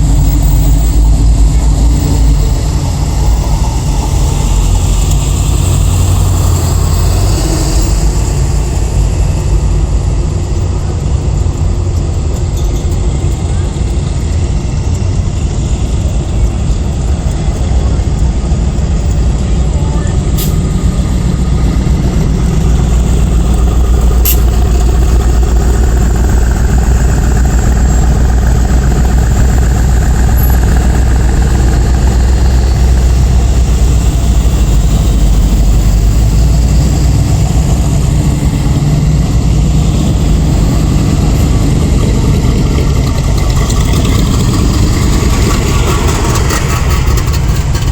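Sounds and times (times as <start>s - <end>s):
car engines idling: 0.0s - 47.9s.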